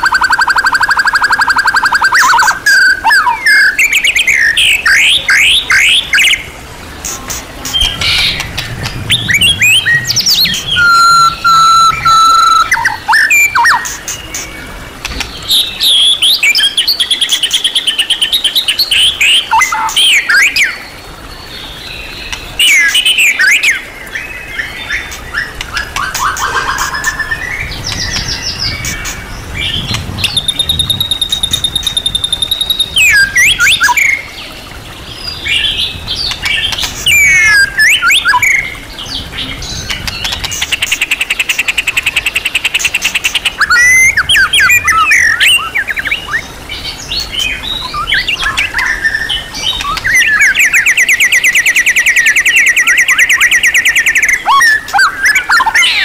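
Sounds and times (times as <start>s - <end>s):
songbird singing whistles and trills: 0.0s - 56.0s.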